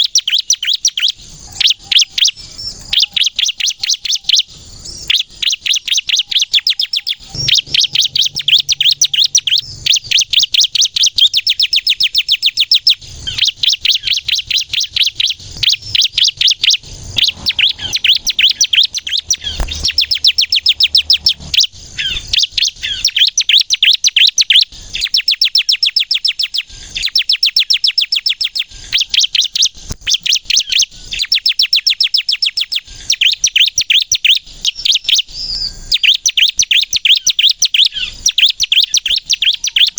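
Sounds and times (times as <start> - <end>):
bird singing rapid high notes: 0.0 - 35.3, 35.9 - 39.9.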